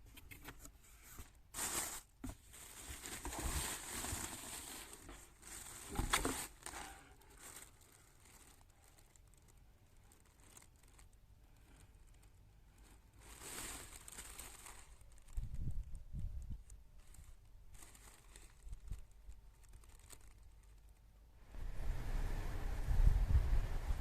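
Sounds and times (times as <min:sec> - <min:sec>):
paper or plastic crinkling: 0:00.1 - 0:21.1.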